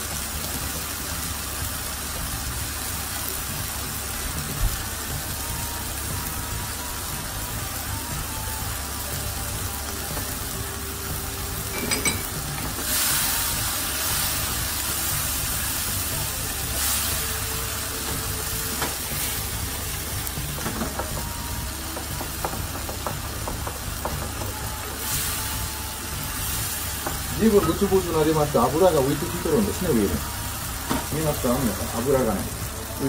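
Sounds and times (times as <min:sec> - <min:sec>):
curry bubbling and sizzling in a pan: 0:00.0 - 0:33.0.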